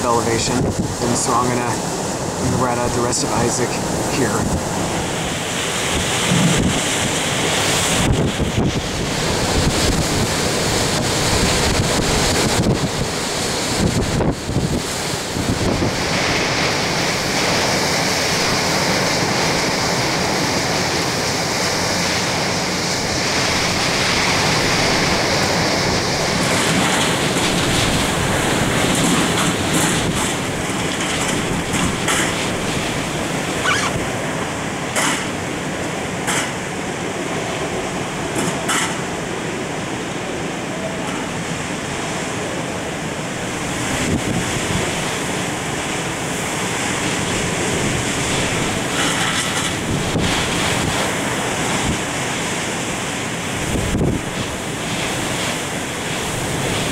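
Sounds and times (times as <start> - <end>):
driving rain: 0.0 - 56.9
hurricane winds: 0.0 - 56.9.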